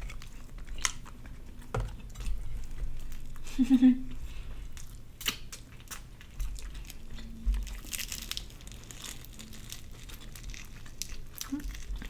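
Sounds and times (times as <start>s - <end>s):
chewing crispy fried chicken: 0.0s - 12.0s.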